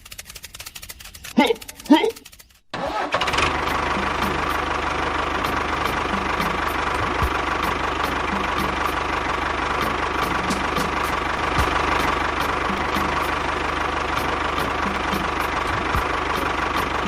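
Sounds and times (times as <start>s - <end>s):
light regular ticking: 0.0s - 2.7s, 3.6s - 17.0s
small engine idling: 0.0s - 17.0s.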